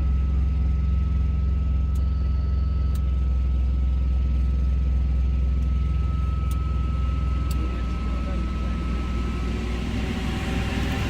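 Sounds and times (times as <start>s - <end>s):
engine idling: 0.0s - 11.0s
thin steady whine: 0.0s - 11.0s.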